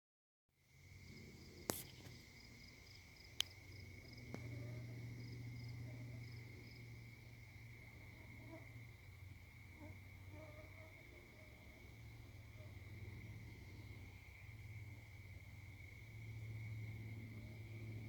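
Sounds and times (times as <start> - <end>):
crickets trilling: 0.7 - 18.0
insect chirping in quick pulses: 0.8 - 18.0.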